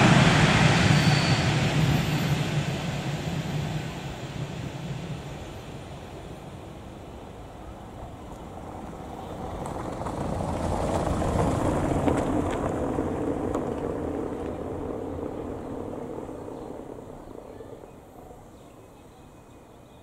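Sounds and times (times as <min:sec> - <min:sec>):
car passing by: 0:00.0 - 0:05.7, 0:07.7 - 0:18.5
tyres rumbling on cobblestones: 0:00.0 - 0:19.0.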